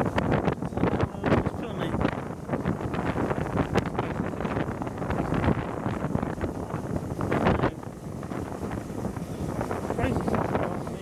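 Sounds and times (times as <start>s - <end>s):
wind buffeting a microphone: 0.0s - 11.0s.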